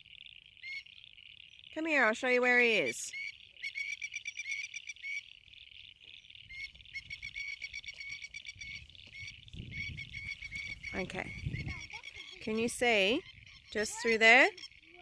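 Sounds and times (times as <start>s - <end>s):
frogs chirping: 0.0s - 15.0s.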